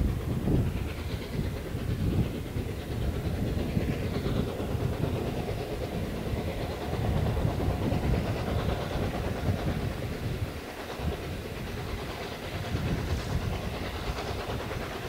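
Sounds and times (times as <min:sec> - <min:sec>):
steam locomotive exhaust beats: 0:00.0 - 0:15.0
train rumbling on track: 0:00.0 - 0:15.0.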